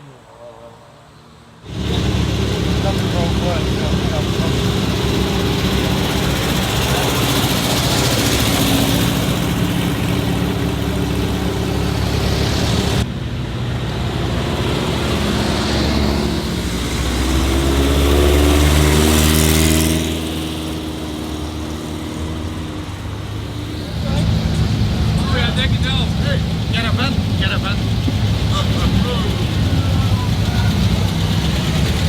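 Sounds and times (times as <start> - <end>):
engine revving: 1.2 - 32.0
old car engines running: 1.6 - 32.0.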